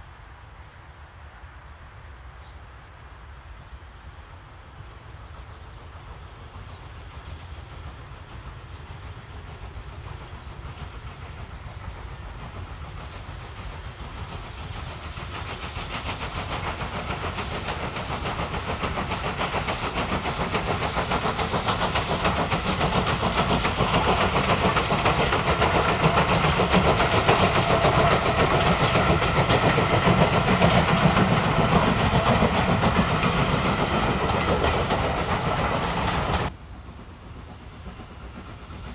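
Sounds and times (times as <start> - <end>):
coaches passing on rails: 0.0 - 38.9
steam locomotive exhaust: 4.8 - 38.9.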